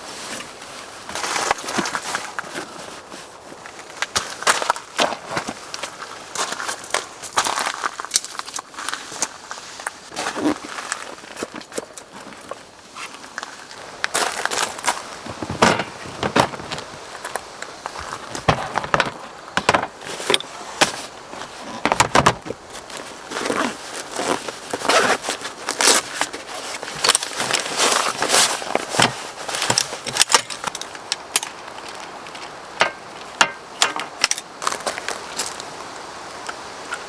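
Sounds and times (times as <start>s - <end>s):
crunching and rustling: 0.0s - 37.0s.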